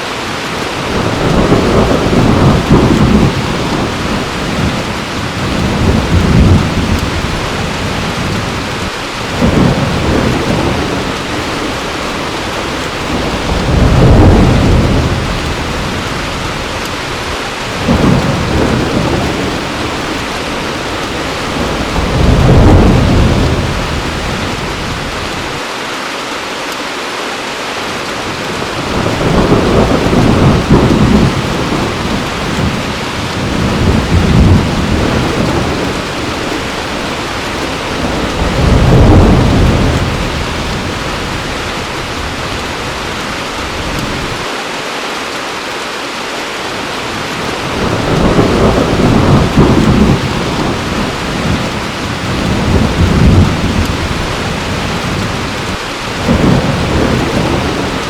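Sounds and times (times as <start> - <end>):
heavy rain: 0.0 - 58.0
thunder rumbling: 0.4 - 25.6, 28.3 - 44.4, 47.1 - 58.0.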